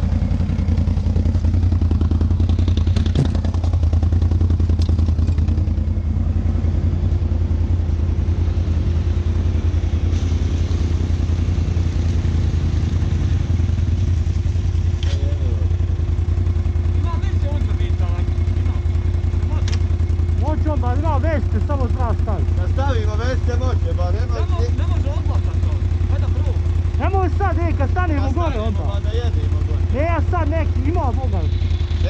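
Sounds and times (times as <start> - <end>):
atv engine running at low revs: 0.0 - 32.0.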